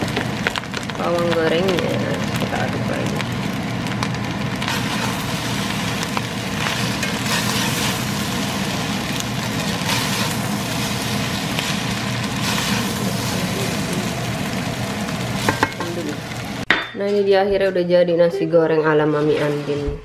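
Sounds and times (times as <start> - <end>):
rice sizzling in a pan: 0.0 - 16.7
steady low hum: 0.0 - 19.2.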